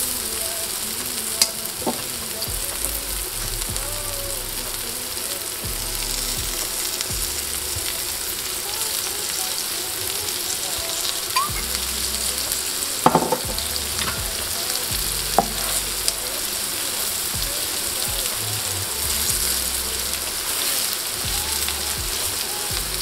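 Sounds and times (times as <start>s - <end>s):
mushrooms sizzling in hot oil: 0.0s - 23.0s.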